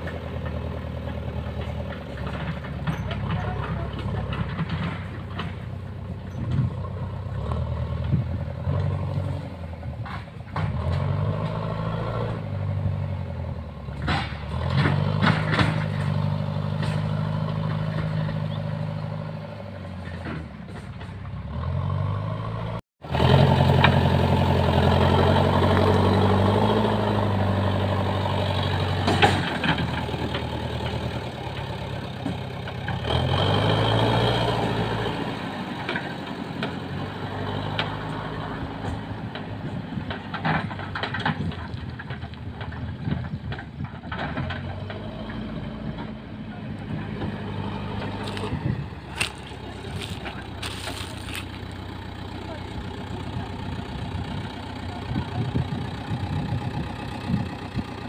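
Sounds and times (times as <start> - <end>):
diesel engine working under load: 0.0 - 58.0.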